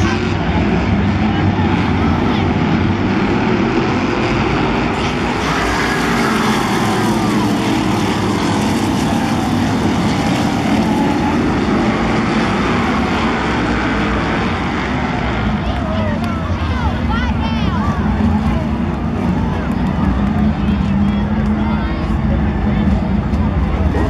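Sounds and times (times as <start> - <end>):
race car engines roaring past: 0.0 - 24.0.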